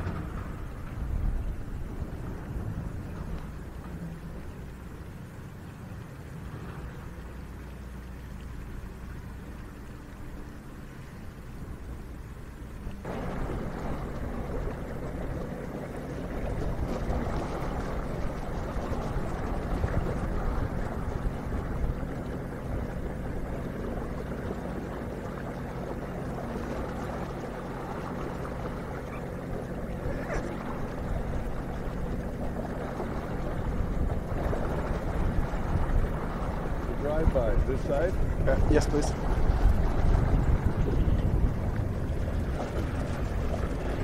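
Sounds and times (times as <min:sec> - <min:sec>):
low engine hum: 0:00.0 - 0:44.0
rushing water: 0:00.0 - 0:44.0.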